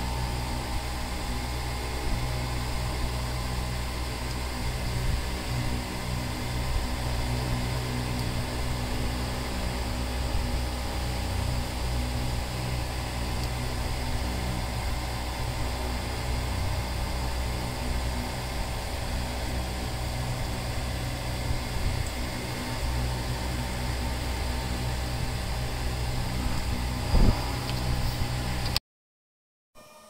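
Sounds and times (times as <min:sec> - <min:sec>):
low mechanical hum: 0:00.0 - 0:28.8.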